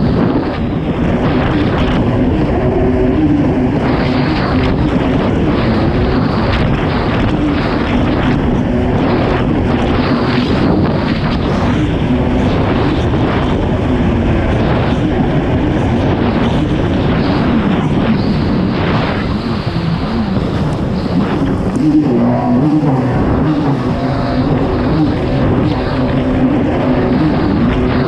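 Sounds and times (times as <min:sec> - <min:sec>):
jet ski engine running hard: 0:00.0 - 0:28.0
wind buffeting microphone: 0:00.0 - 0:28.0.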